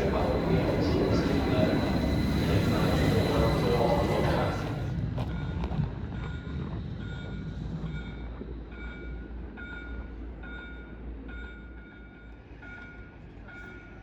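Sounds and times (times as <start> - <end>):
low rumble of a tram: 0.0 - 14.0.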